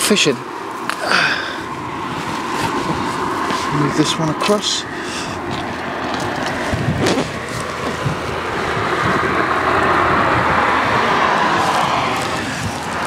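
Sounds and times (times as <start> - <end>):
outdoor rushing noise: 0.0 - 13.0.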